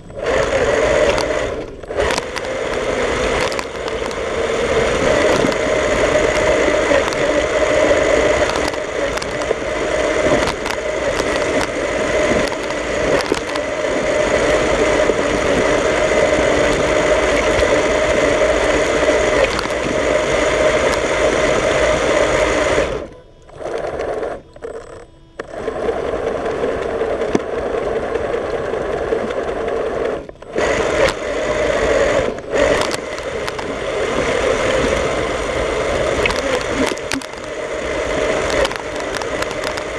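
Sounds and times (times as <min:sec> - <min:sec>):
plastic blade pushing snow: 0:00.0 - 0:24.4, 0:25.4 - 0:39.9
toy vehicle motor whirring: 0:00.0 - 0:39.9.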